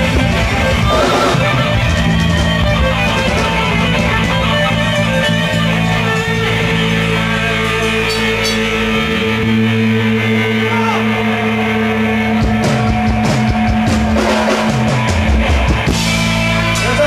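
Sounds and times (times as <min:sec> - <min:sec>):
bass guitar: 0:00.0 - 0:17.0
drums: 0:00.0 - 0:17.0
electric guitars: 0:00.0 - 0:17.0.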